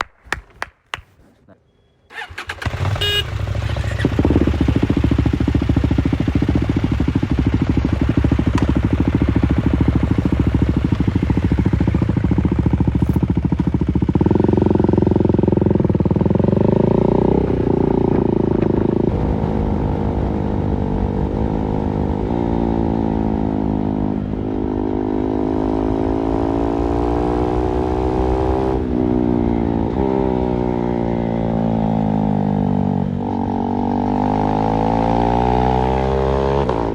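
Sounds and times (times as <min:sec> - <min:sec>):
motorcycle engine idling and accelerating: 0:02.1 - 0:36.9.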